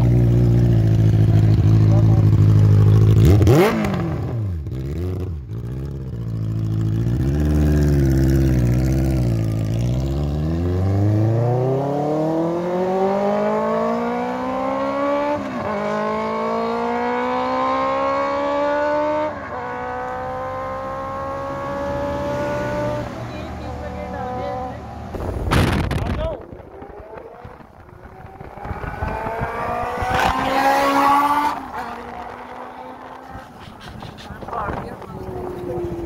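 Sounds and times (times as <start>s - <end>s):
motorcycle accelerating hard: 0.0s - 36.0s.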